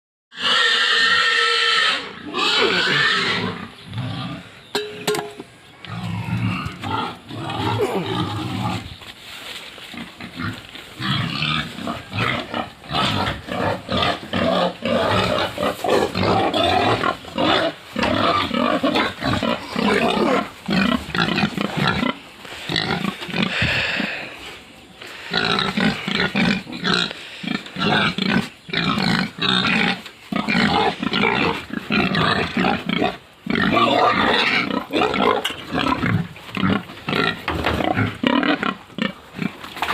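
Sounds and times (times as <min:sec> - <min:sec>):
pigs squealing: 0:00.3 - 0:04.5, 0:05.9 - 0:08.9, 0:10.0 - 0:24.2, 0:25.3 - 0:39.6.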